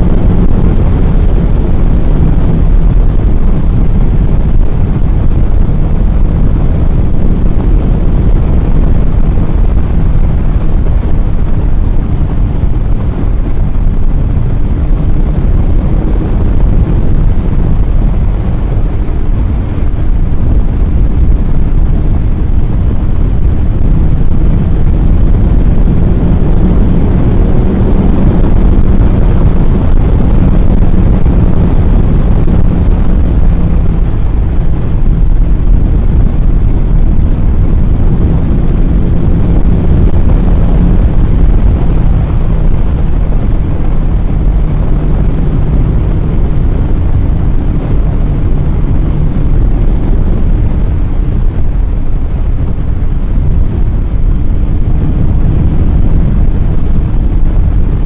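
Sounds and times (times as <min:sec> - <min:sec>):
motorcycle engine running: 0:00.0 - 0:58.0
wind rush over microphone: 0:00.0 - 0:58.0.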